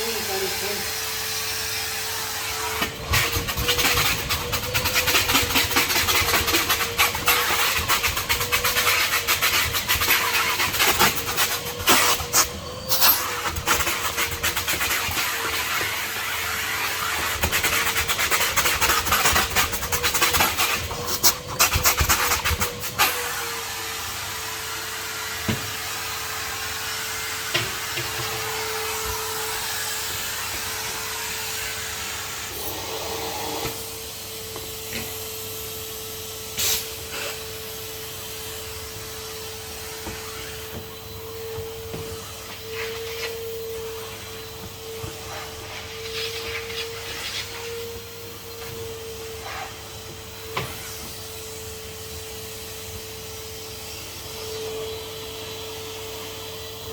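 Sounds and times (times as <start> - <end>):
vacuum cleaner motor whine: 0.0 - 56.9.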